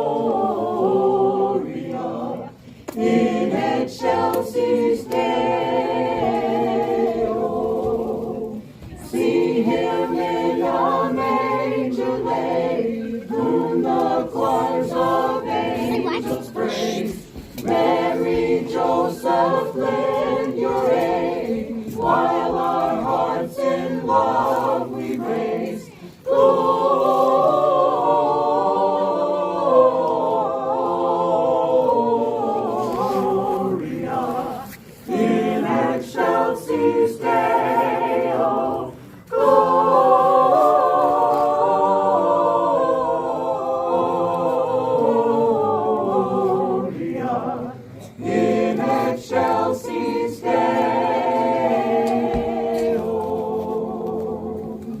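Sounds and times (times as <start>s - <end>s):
choir singing a carol: 0.0s - 55.0s.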